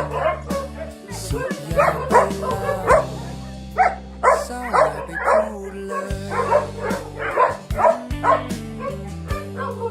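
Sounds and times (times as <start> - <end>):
dog barking and yipping: 0.0 - 3.2, 3.8 - 9.9
background music with low notes: 0.0 - 9.9.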